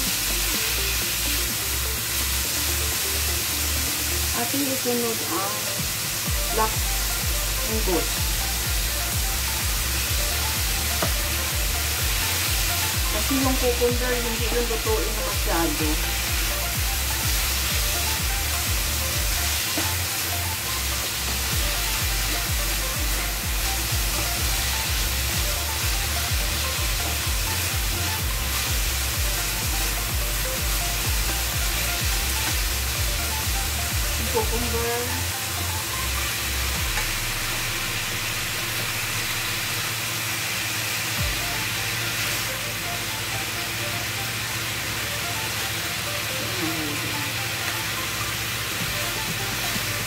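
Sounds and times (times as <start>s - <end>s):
background music with beat: 0.0s - 50.0s
stir-fry sizzling in a pan: 0.0s - 50.0s.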